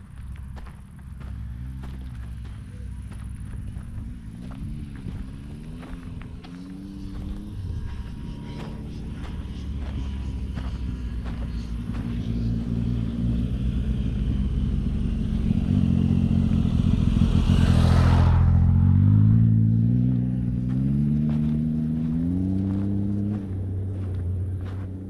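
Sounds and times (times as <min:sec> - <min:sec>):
vehicle engine passing by: 0:00.0 - 0:25.0.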